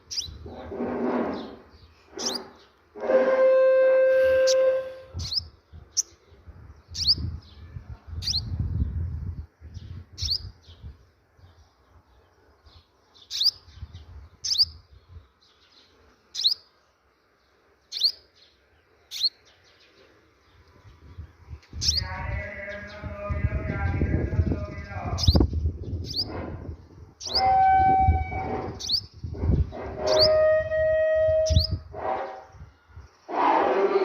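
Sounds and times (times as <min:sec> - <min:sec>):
bird chirping: 0:00.0 - 0:08.6, 0:09.7 - 0:33.4.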